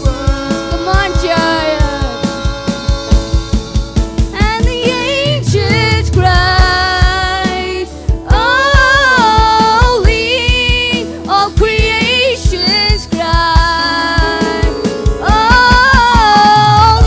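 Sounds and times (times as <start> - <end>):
bass: 0.0 - 17.0
steady drum beat: 0.0 - 17.0.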